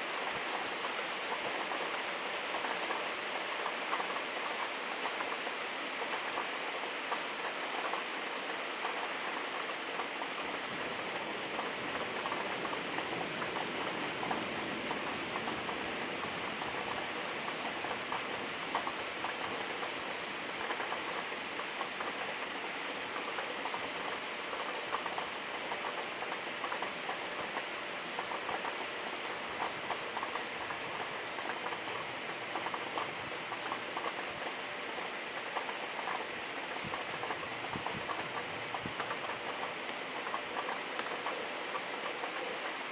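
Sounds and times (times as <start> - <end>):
rain drops pattering: 0.0 - 42.9.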